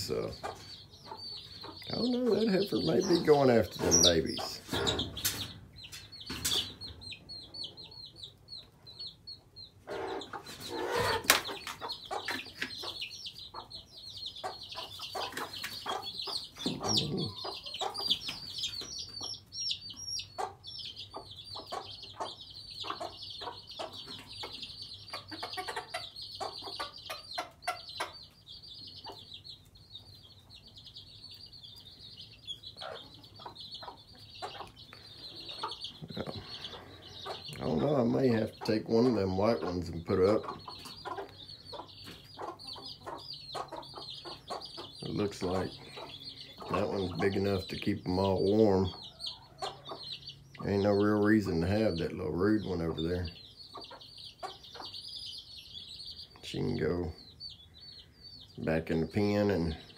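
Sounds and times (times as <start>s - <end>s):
chicks peeping: 0.0s - 59.9s
hens clucking: 0.0s - 59.9s.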